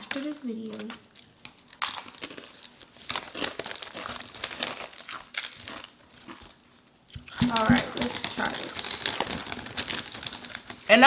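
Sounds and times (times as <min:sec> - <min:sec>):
snack wrapper crinkling and tearing: 0:00.0 - 0:11.0.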